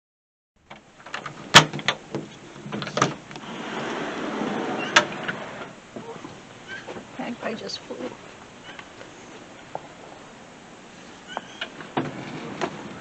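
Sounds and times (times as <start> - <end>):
rush of outside noise: 0.6 - 13.0.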